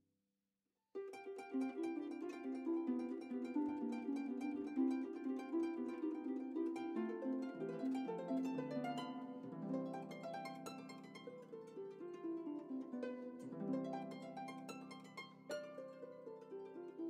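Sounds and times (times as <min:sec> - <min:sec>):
plucked string melody: 0:01.0 - 0:17.0.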